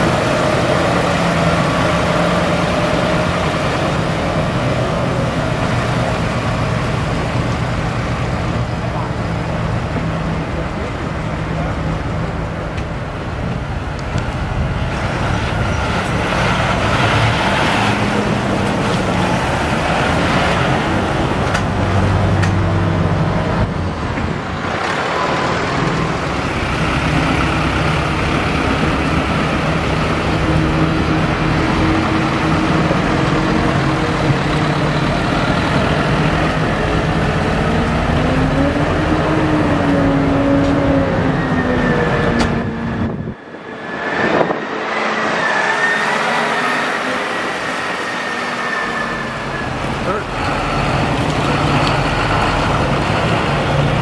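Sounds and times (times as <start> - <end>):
tractor diesel engines: 0.0 - 54.0.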